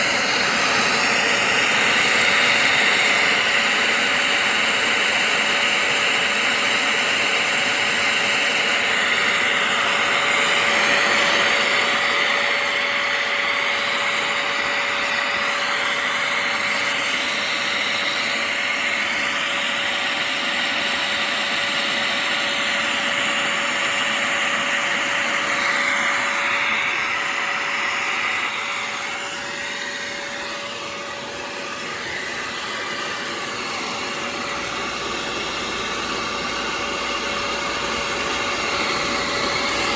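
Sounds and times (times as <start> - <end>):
spot cleaner suction motor whine: 0.0 - 39.9.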